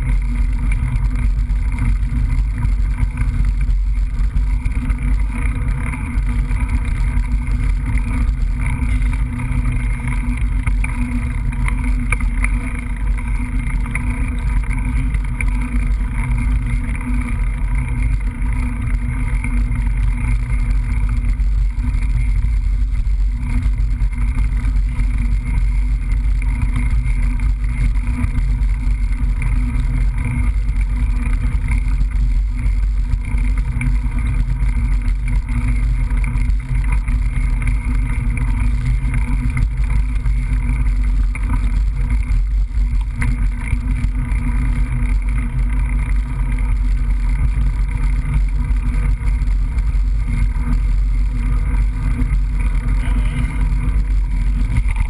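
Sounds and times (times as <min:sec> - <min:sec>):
trail vibration rumble: 0:00.0 - 0:55.0
wind on camera: 0:00.0 - 0:55.0.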